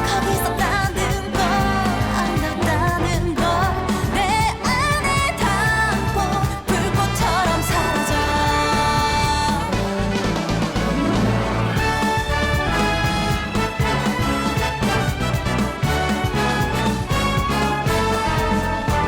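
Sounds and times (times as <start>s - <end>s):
pop song with sung vocals: 0.0s - 19.0s
steady bass beat: 0.0s - 19.0s.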